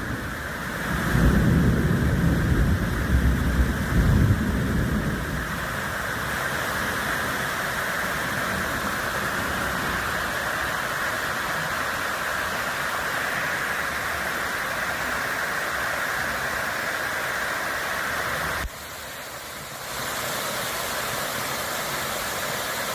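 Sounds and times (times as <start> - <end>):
steady rushing noise: 0.0 - 22.9.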